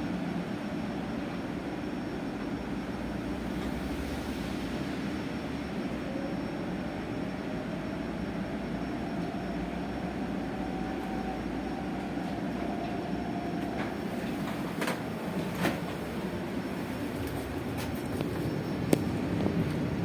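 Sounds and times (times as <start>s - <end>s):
bus running and tyre noise: 0.0s - 20.0s.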